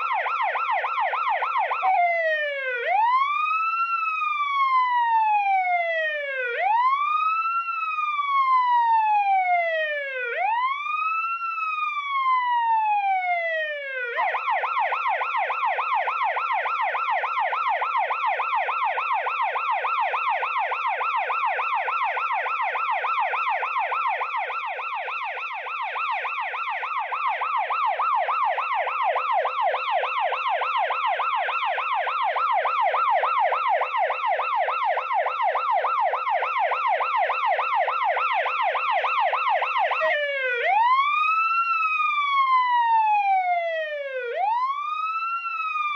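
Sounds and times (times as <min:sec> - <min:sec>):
police siren wail and yelp: 0:00.0 - 0:45.9.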